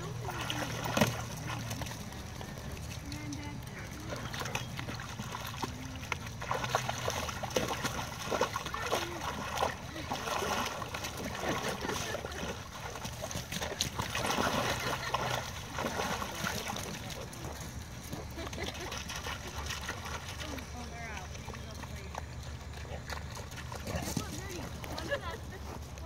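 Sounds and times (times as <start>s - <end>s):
dog splashing in water: 0.0s - 25.3s.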